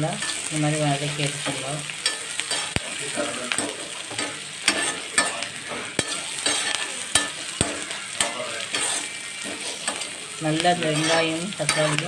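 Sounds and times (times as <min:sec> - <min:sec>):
onion and tomato sizzling in oil: 0:00.0 - 0:12.0.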